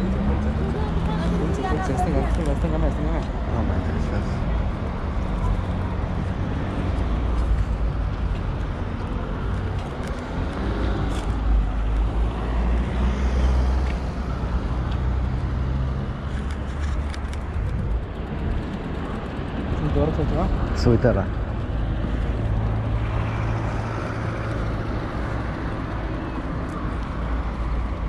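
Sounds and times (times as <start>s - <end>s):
cars driving by: 0.0s - 28.0s.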